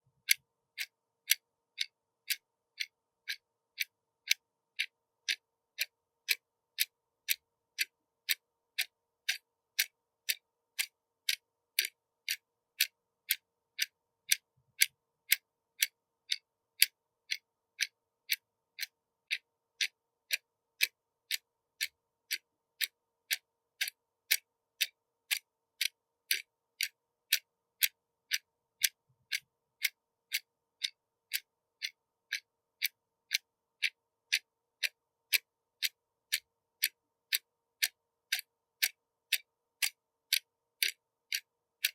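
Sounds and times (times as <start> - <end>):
watch ticking: 0.0 - 41.9.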